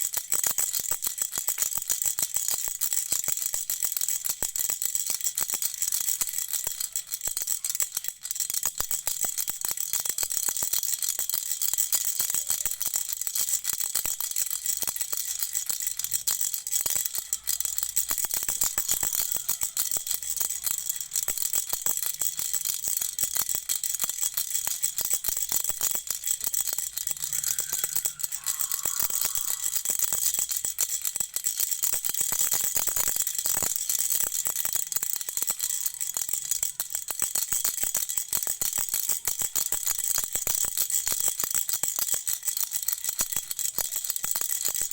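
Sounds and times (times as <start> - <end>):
baby's toy rattle shaken: 0.0 - 44.9.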